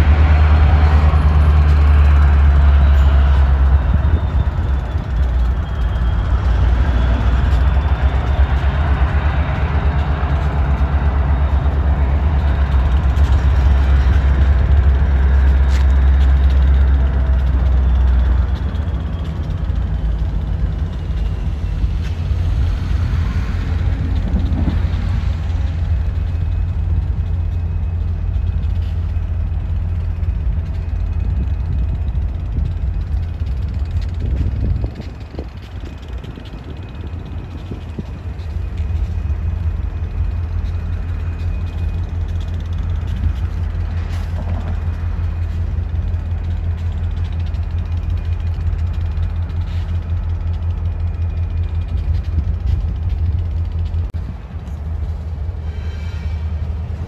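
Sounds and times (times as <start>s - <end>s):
heavy diesel engines rumbling: 0.0s - 57.0s.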